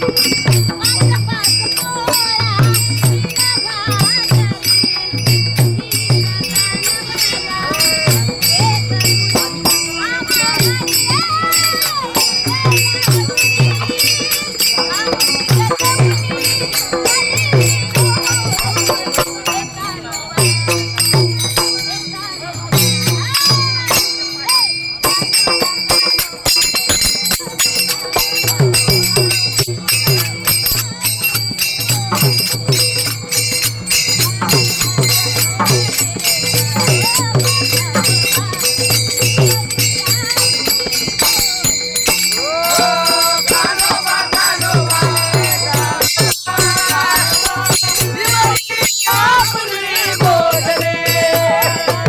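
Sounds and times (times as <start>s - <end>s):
drum beating: 0.0s - 52.0s
hand cymbals clashing: 0.0s - 52.0s.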